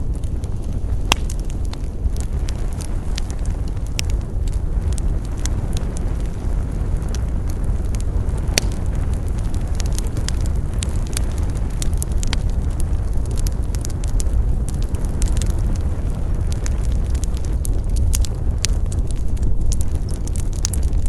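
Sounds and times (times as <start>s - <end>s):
campfire crackles and pops: 0.0s - 21.0s
low rumble of flame: 0.0s - 21.0s.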